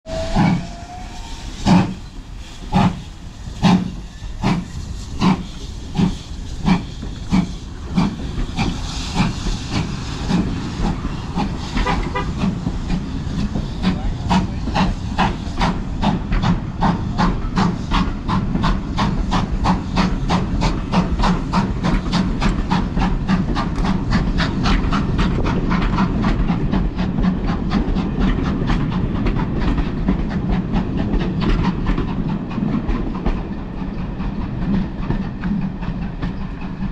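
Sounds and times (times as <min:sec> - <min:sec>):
steam locomotive exhaust beats: 0:00.0 - 0:36.9
steam hiss: 0:00.1 - 0:36.9.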